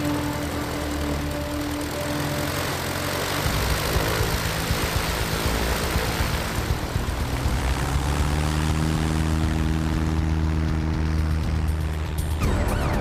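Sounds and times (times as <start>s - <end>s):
propeller aircraft engine drone: 0.0s - 13.0s
propeller noise rushing: 0.0s - 13.0s.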